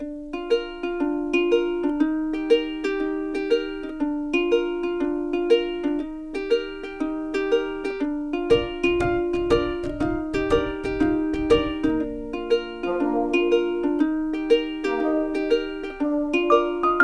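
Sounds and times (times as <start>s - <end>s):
plucked-string tune with beat: 0.0s - 17.0s.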